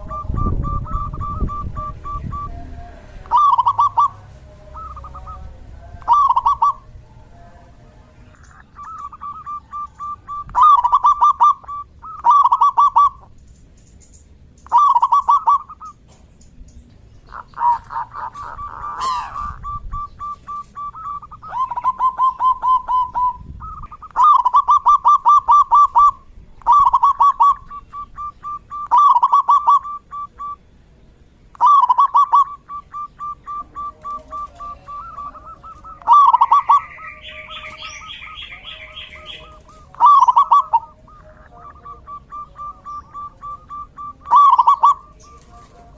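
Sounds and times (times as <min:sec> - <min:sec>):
dove cooing: 0:00.0 - 0:07.5, 0:08.3 - 0:13.4, 0:14.6 - 0:16.2, 0:17.2 - 0:30.6, 0:31.5 - 0:45.9.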